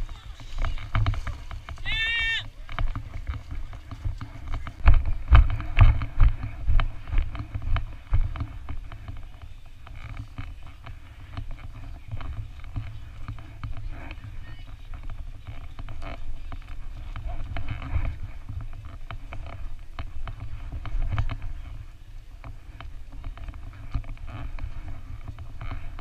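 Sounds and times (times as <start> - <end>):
rope net rustling: 0.0 - 26.0.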